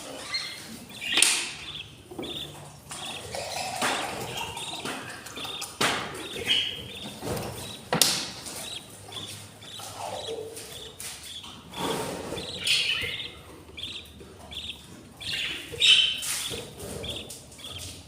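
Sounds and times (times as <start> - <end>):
budgies chirping: 0.0 - 18.0.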